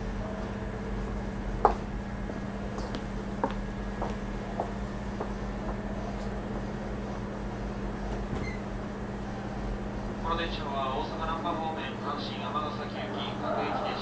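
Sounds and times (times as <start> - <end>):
train cabin hum: 0.0 - 14.0.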